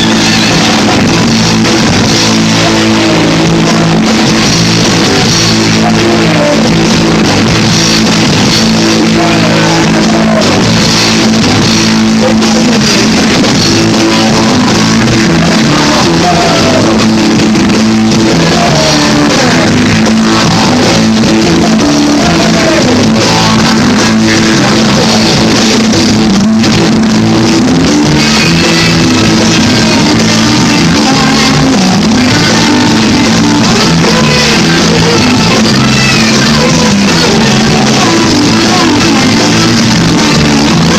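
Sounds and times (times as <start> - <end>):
rock band music: 0.0 - 40.9.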